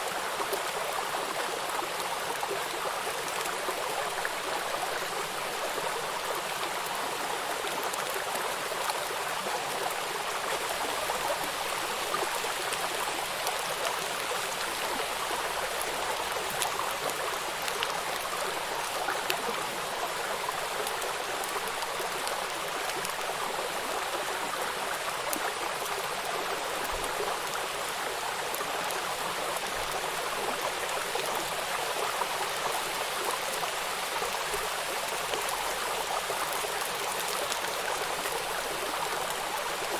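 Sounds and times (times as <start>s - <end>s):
river water running: 0.0s - 39.9s
raindrops pattering on water: 0.4s - 39.9s.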